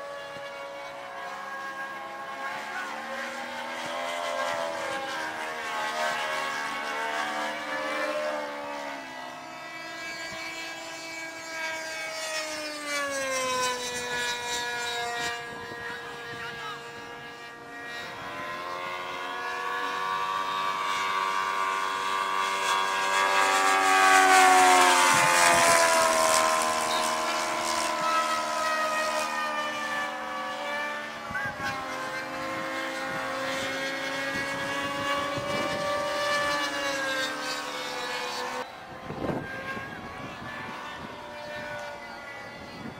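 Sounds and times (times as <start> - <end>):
model airplane engine buzzing: 0.0 - 42.9.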